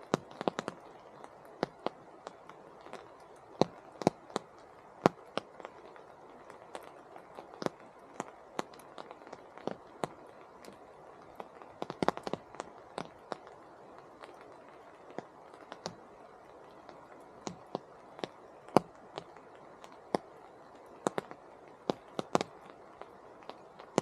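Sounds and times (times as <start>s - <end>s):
faint steady hiss: 0.0s - 24.0s
rain drips tapping and plopping: 0.0s - 24.0s.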